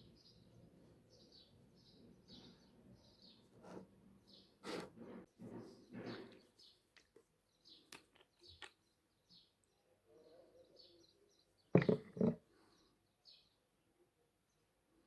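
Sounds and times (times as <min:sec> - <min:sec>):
small birds chirping: 0:00.0 - 0:04.9, 0:05.5 - 0:13.8.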